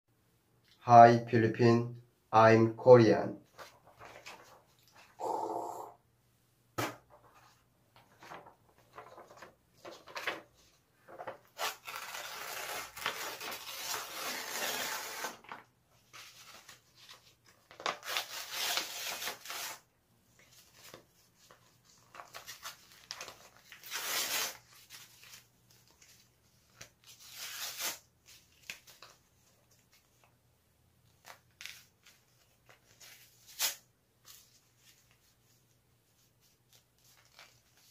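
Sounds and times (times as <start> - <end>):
paper crinkling and rustling: 3.5 - 5.2, 7.1 - 19.8, 20.4 - 30.4, 31.1 - 37.9.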